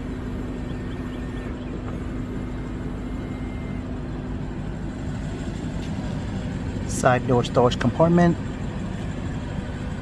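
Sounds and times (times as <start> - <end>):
low hum: 0.0 - 10.0
power side mirror motor whine: 0.0 - 10.0.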